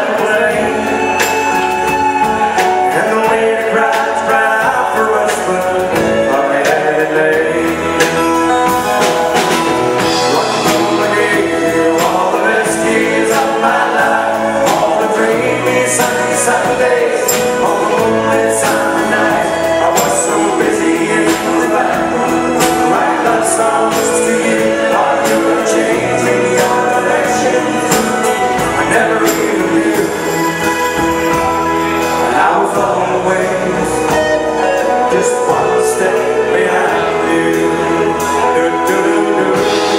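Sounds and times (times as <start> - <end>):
electric bass guitar: 0.0 - 39.9
live band playing: 0.0 - 39.9
men singing: 0.0 - 39.9.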